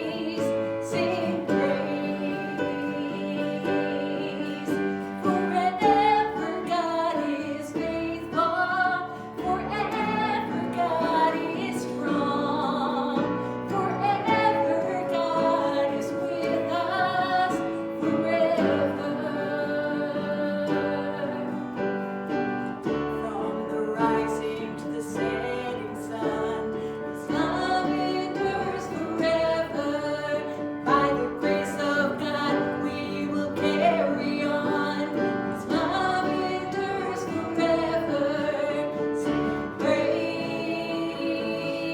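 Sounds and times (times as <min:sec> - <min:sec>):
instrumental accompaniment: 0:00.0 - 0:41.9
woman singing worship song: 0:00.0 - 0:41.9.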